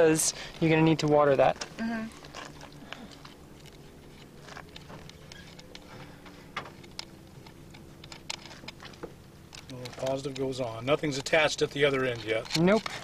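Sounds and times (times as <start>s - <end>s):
faint steady hum: 0.0s - 13.0s
clicks of wire connectors: 2.3s - 13.0s.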